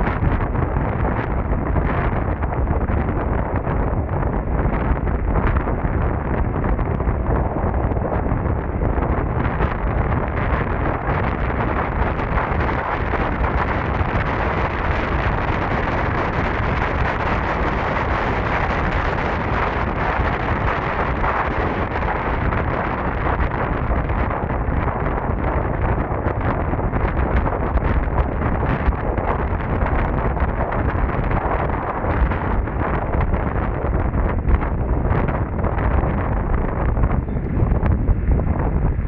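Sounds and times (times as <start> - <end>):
wind roaring on microphone: 0.0 - 39.0.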